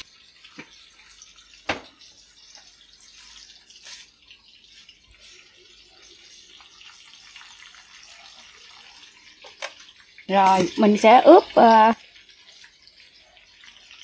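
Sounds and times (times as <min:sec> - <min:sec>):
mushrooms sizzling in oil: 0:00.0 - 0:14.0.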